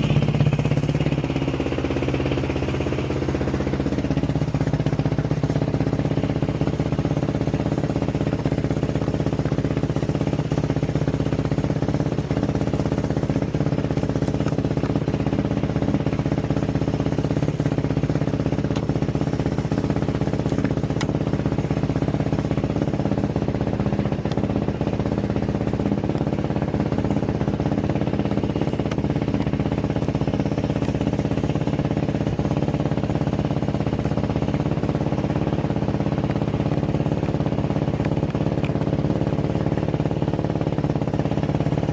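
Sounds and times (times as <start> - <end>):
four-stroke engine idling: 0.0 - 41.9.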